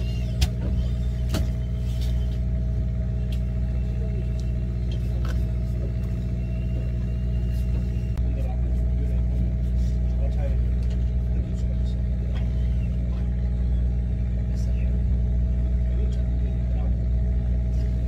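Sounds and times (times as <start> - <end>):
boat engine low drone: 0.0 - 18.0.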